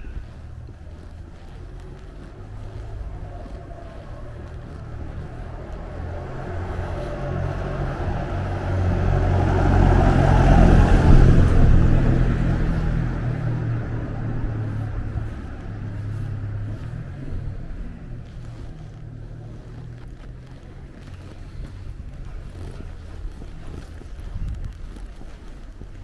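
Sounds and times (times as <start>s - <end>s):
van driving past: 0.0s - 26.0s.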